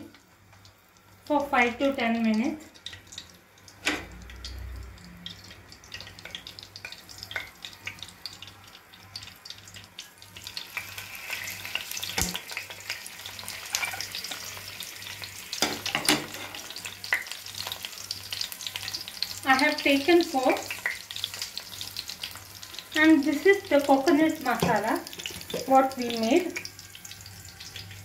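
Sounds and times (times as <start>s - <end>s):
eggplants sizzling in oil: 0.0s - 28.0s.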